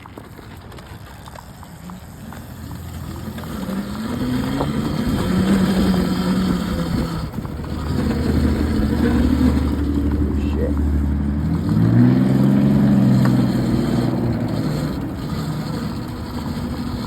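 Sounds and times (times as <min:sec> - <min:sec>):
electric dirt bike motor whining: 0:00.0 - 0:17.0.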